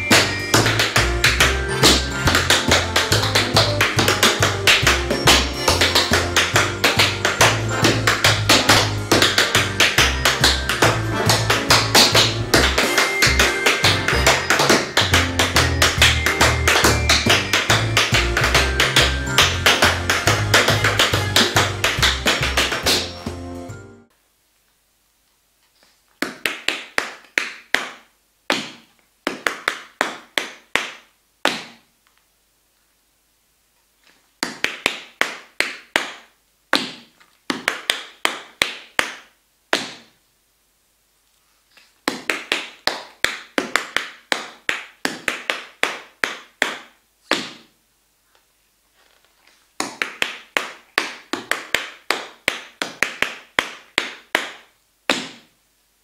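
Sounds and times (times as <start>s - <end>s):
tap shoes on wooden floor: 0.0s - 23.4s, 26.2s - 31.8s, 34.4s - 40.1s, 42.0s - 47.7s, 49.8s - 55.5s.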